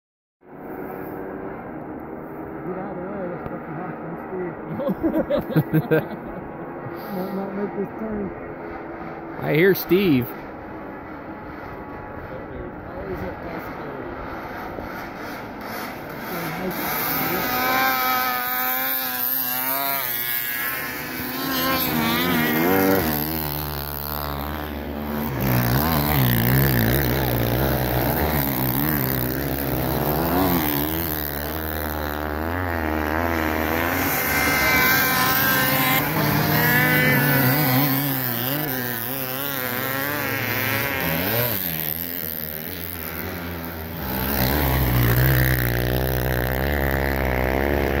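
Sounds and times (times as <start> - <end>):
snowmobile engines revving: 0.5 - 48.0.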